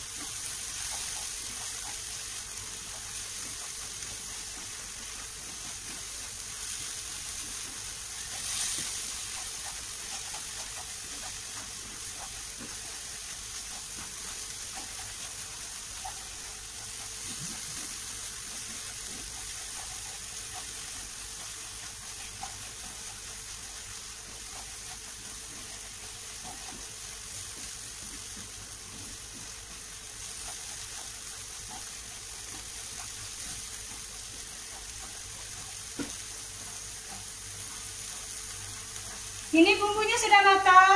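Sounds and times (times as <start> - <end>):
spatula scraping a wok: 0.0 - 39.5
paste sizzling in hot oil: 0.0 - 40.9.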